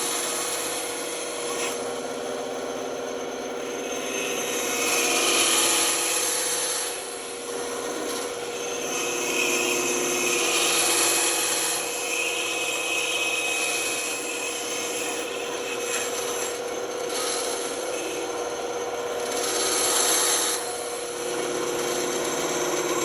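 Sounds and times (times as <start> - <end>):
band saw cutting wood: 0.0 - 23.0.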